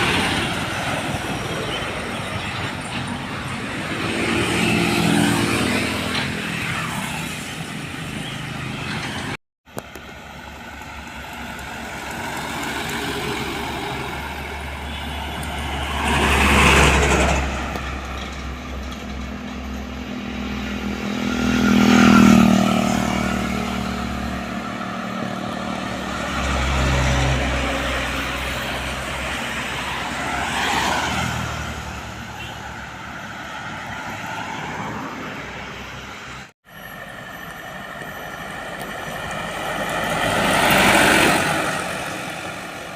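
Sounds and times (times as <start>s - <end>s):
heavy trucks passing by: 0.0s - 42.9s.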